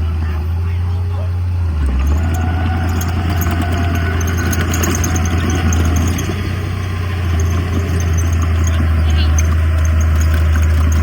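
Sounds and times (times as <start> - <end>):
heavy diesel engine droning: 0.0 - 11.0.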